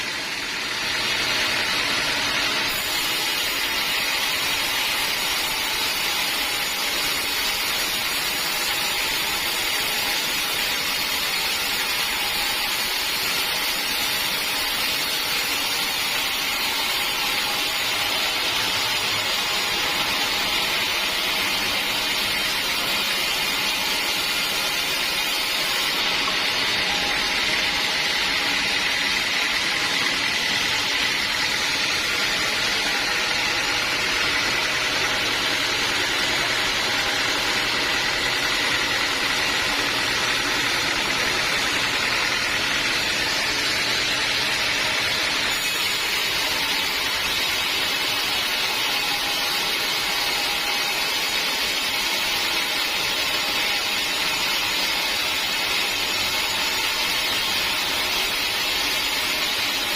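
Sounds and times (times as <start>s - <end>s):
sawmill sawing through log: 0.0s - 59.9s.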